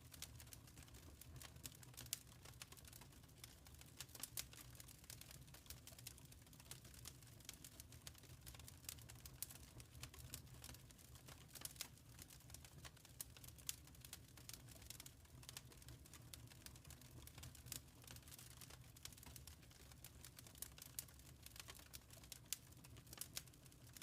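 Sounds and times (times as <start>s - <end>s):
faint wood fire crackling: 0.0s - 24.0s.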